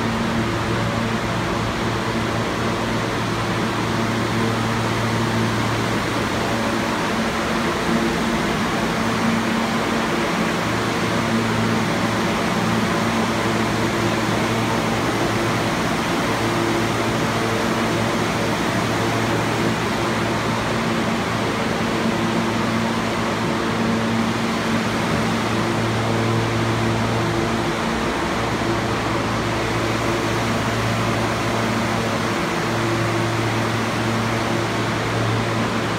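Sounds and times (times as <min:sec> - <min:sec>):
train air conditioning hum: 0:00.0 - 0:35.9.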